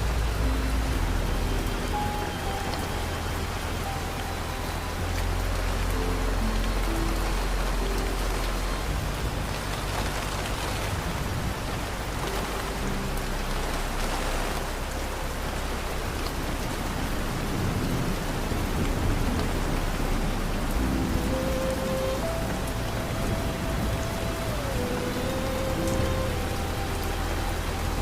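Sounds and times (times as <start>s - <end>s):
rain falling on a surface: 0.0s - 28.0s
soft sustained music notes: 0.0s - 28.0s.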